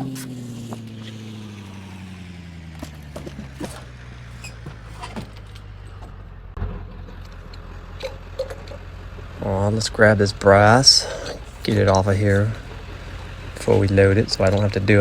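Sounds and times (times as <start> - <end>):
vehicle engine running: 0.0 - 15.0
light rattles and clicks: 3.0 - 15.0.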